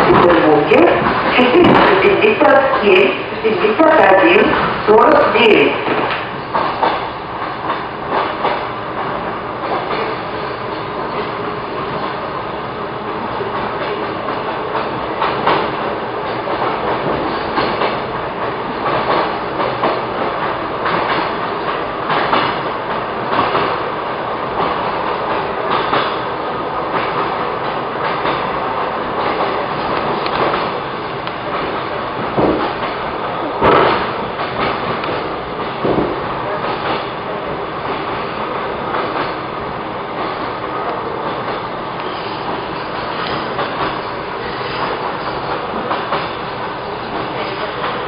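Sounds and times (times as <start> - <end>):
train rolling rumble: 0.0 - 48.0.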